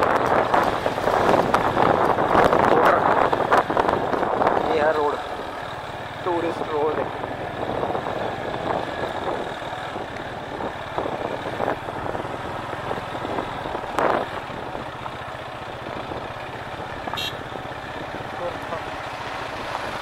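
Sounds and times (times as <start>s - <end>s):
motorcycle engine running: 0.0s - 20.0s
tyre and road noise: 0.0s - 20.0s.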